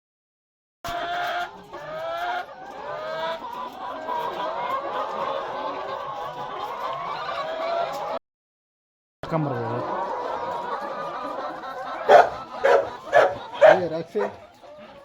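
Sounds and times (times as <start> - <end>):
chickens clucking: 0.9 - 8.2, 9.3 - 15.0.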